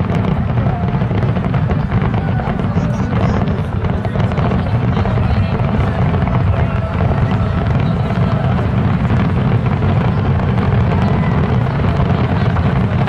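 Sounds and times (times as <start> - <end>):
fireworks booming: 0.0 - 13.0
sharp firework cracks: 0.0 - 13.0.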